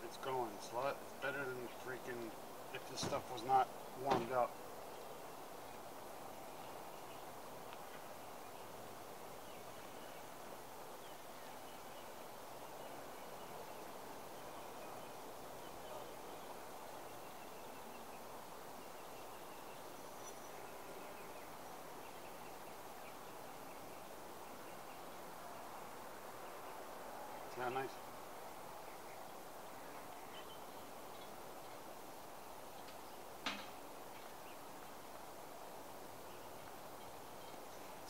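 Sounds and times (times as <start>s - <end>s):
faint ambient hiss: 0.0s - 38.0s.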